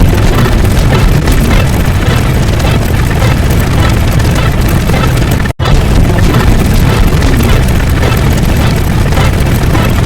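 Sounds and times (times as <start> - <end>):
loud distorted rumbling noise: 0.0 - 10.0.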